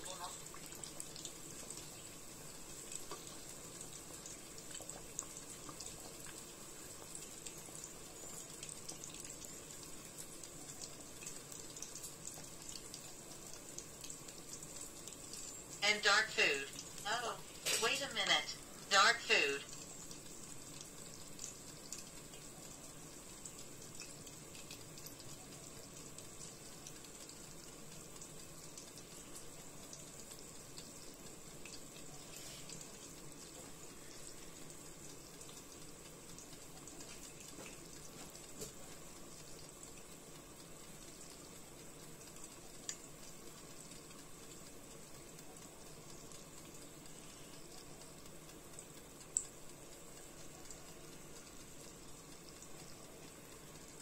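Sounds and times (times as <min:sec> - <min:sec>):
buns sizzling in oil: 0:00.0 - 0:54.0.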